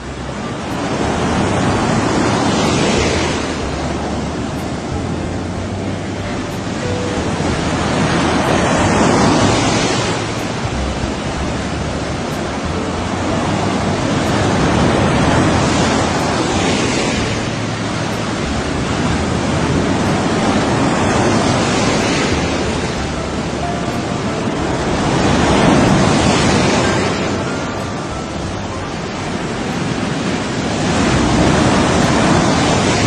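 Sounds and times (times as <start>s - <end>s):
sea waves breaking ashore: 0.0s - 33.0s.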